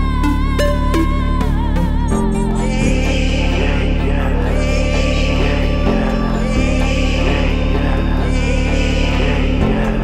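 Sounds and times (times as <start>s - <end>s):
deep house music: 0.0s - 10.0s
steady bass: 0.0s - 10.0s.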